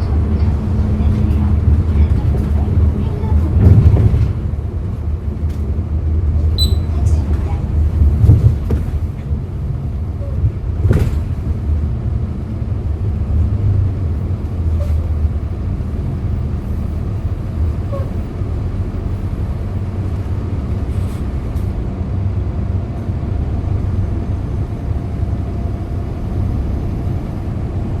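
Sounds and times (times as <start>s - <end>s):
bus engine rumbling: 0.0s - 28.0s.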